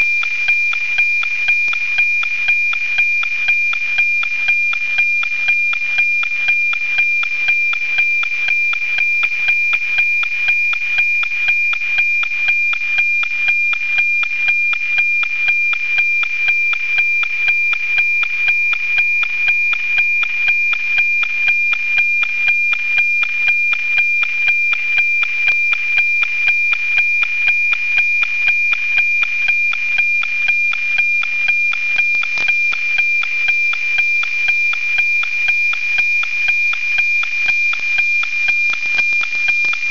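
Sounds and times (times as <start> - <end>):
high-pitched tone ticking: 0.0 - 39.9.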